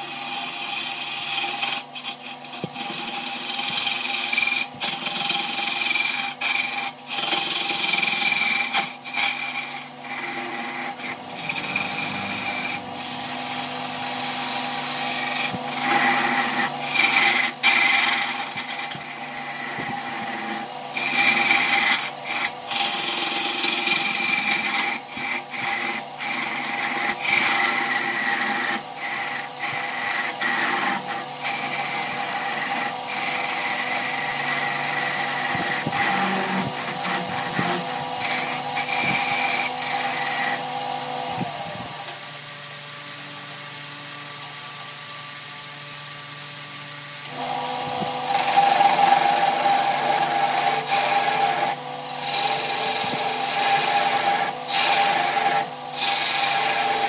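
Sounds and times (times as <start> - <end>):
gouge shaving wood: 0.0 - 42.2, 47.3 - 57.0
lathe motor hum: 0.0 - 57.0.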